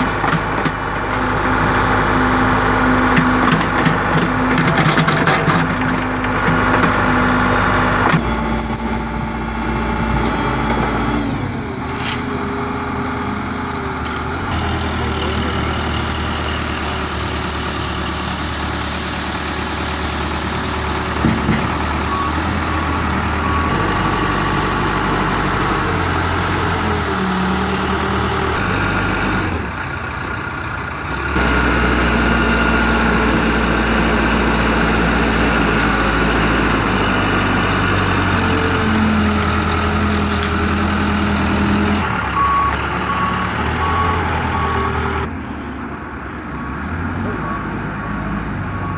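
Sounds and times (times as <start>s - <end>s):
heavy machinery engine running: 0.0s - 48.9s.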